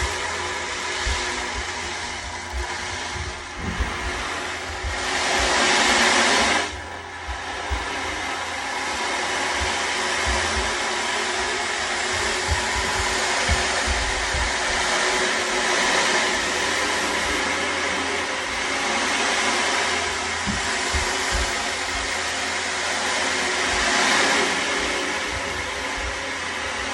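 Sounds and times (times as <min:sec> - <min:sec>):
low thumps of kids running: 0:00.0 - 0:18.9, 0:19.9 - 0:22.6.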